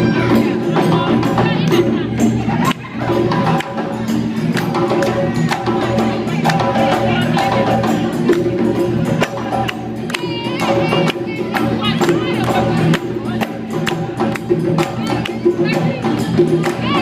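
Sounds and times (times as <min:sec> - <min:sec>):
drums playing fast rhythm: 0:00.0 - 0:17.0.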